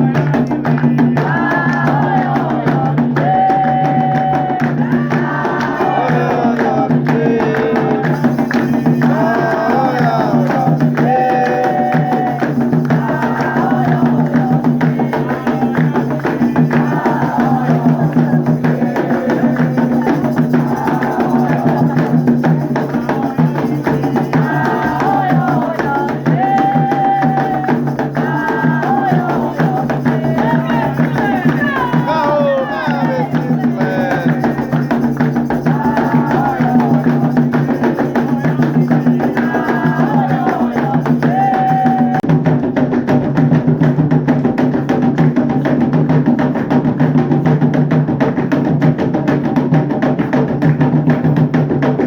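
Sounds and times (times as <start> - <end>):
person singing a chant: 0.0 - 42.2
drumming and percussion: 0.0 - 52.0.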